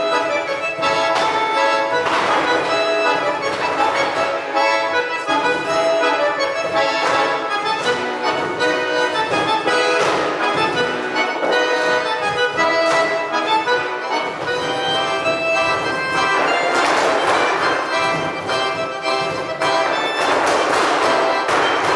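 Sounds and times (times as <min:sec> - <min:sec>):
accordion playing folk tune: 0:00.0 - 0:21.9.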